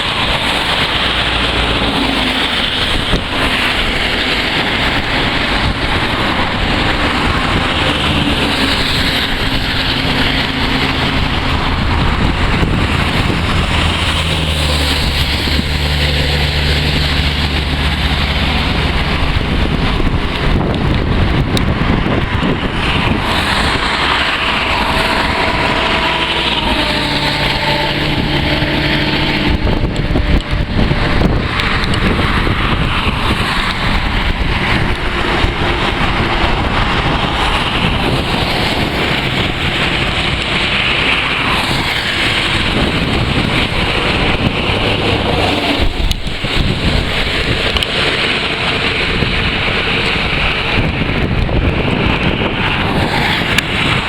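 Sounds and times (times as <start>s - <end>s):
road traffic hum: 0.0s - 54.0s
wind on microphone: 0.0s - 54.0s.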